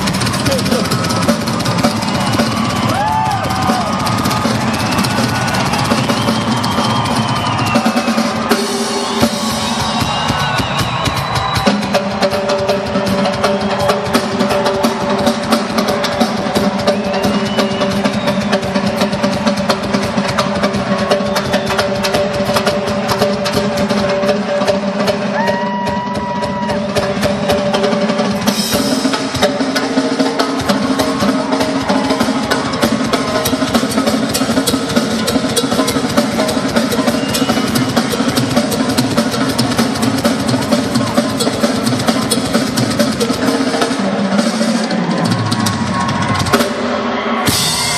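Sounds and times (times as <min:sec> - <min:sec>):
rock drum kit playing: 0:00.0 - 0:47.9.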